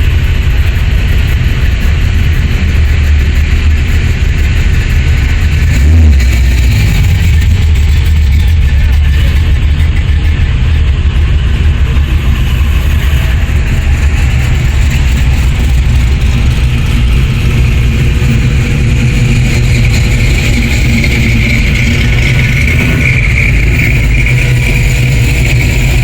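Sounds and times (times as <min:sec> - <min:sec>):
car engines rumbling: 0:00.0 - 0:26.0.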